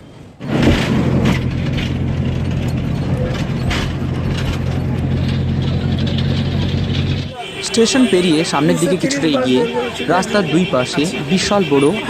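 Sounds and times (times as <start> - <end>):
bus body rattling: 0.0 - 12.0
bus engine drone: 0.0 - 12.0.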